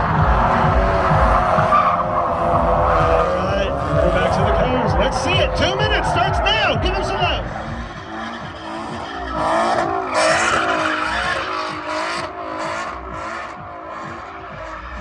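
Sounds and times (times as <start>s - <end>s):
tyres squealing: 0.0s - 13.2s
car engine revving: 0.0s - 15.0s.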